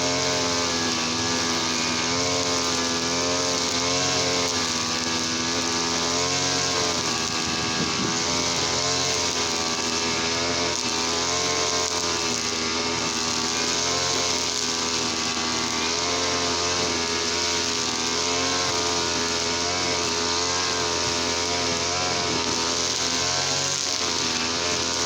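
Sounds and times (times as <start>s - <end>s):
brush cutter engine running: 0.0s - 25.0s.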